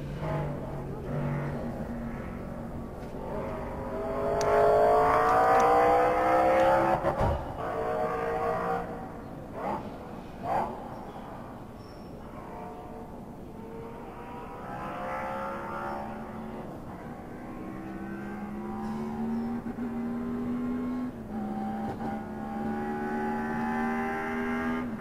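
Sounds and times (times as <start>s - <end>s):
race car engine under load: 0.0s - 25.0s.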